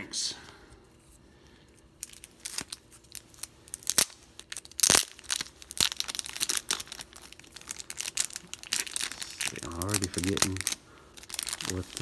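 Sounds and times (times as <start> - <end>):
plastic crinkling and clicking: 2.0 - 12.0
plastic ripping: 2.0 - 12.0.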